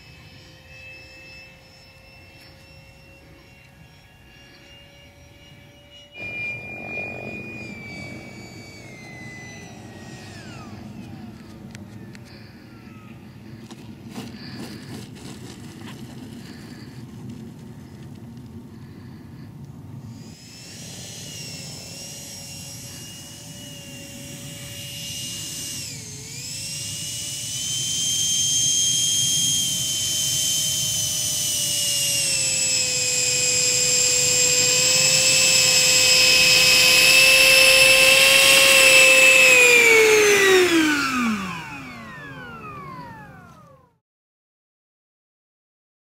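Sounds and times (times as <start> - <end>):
electric ducted fan whining: 0.0 - 44.0.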